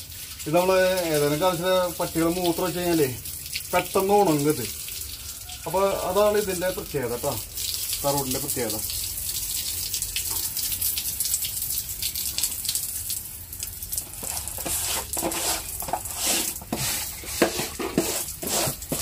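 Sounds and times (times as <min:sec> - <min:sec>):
hose water spattering on tiles: 0:00.0 - 0:19.0.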